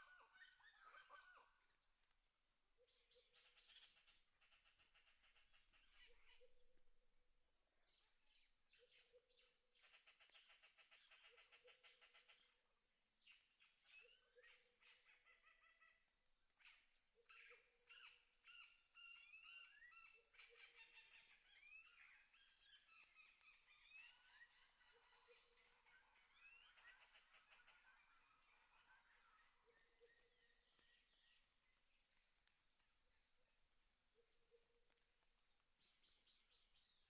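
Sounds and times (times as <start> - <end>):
faint birds chirping and trilling: 0.0 - 37.0.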